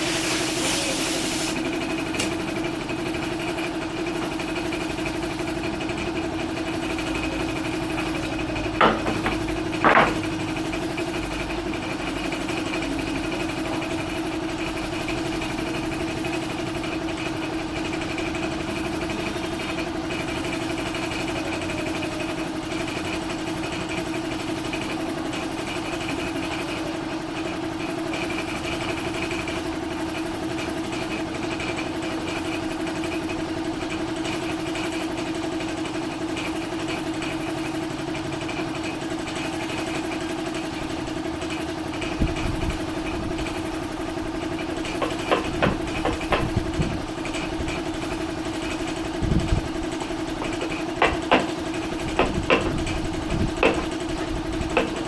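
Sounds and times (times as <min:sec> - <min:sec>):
motor humming steadily: 0:00.0 - 0:55.0.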